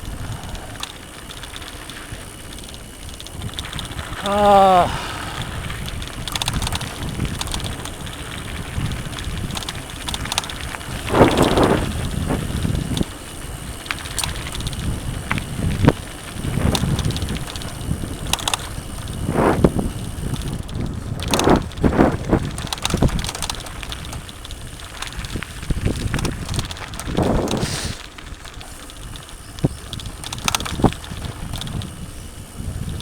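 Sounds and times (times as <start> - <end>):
bike clicks and rattles: 0.0 - 33.0
bike tyre rumble on trail: 0.0 - 33.0
wind on microphone: 3.4 - 28.1, 29.1 - 33.0.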